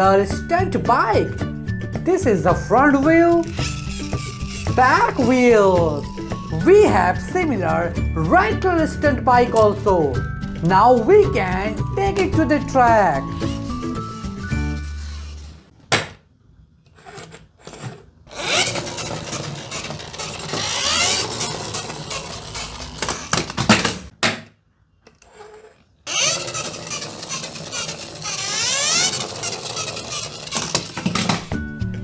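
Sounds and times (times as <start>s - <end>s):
toy motorbikes whirring and rattling: 2.0s - 15.7s, 16.9s - 24.1s, 25.1s - 31.7s.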